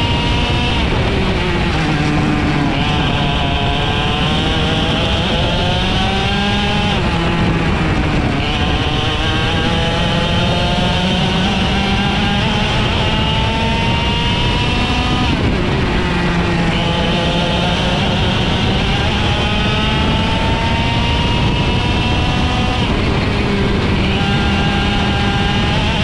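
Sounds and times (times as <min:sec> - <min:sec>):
two-stroke kart engine at full throttle: 0:00.0 - 0:26.0.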